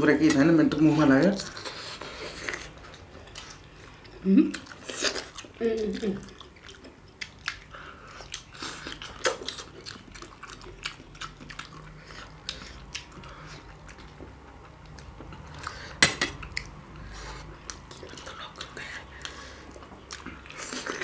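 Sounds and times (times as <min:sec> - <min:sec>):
chewing and biting food: 0:00.8 - 0:21.0.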